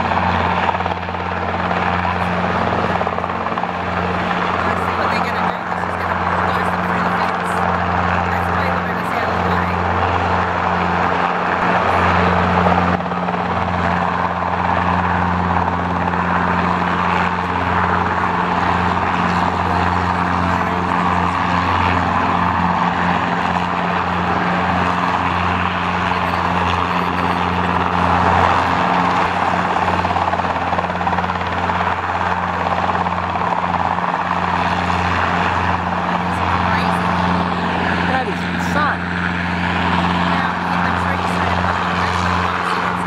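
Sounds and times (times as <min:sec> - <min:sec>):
helicopter flying low: 0:00.0 - 0:43.0.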